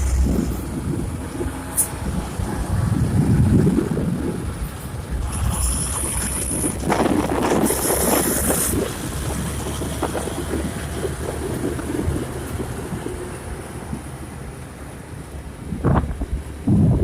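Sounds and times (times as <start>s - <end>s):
heavy vehicle engine rumble: 0.0s - 17.0s
road traffic: 0.0s - 17.0s
wind buffeting microphone: 0.0s - 17.0s.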